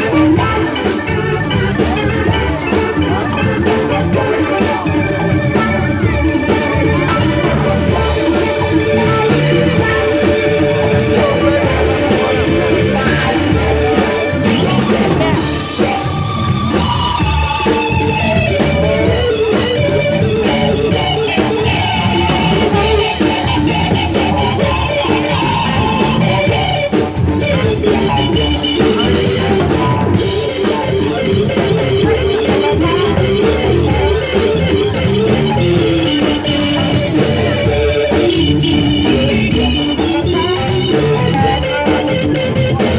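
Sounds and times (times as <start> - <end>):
drum kit: 0.0 - 42.9
electric guitar: 0.0 - 42.9
electric keyboard: 0.0 - 42.9.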